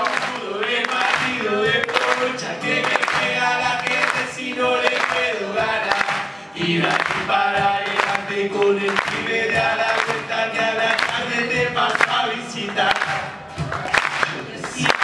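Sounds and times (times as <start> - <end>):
acoustic guitars strummed: 0.0 - 15.0
cajon beating time: 0.0 - 15.0
voices singing together: 0.0 - 15.0.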